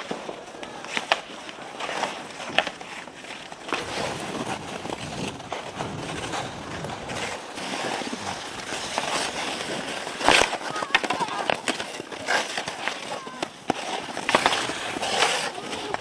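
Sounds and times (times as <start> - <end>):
hockey sticks striking ice: 0.0 - 16.0
ice skates scraping ice: 0.0 - 16.0.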